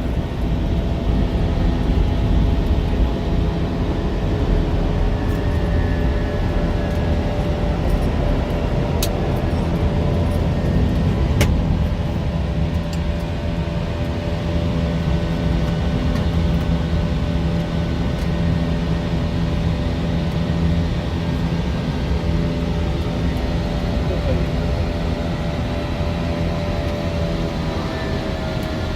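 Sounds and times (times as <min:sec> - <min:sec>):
constant hums: 0:00.0 - 0:28.9
engine and airflow rumble: 0:00.0 - 0:28.9.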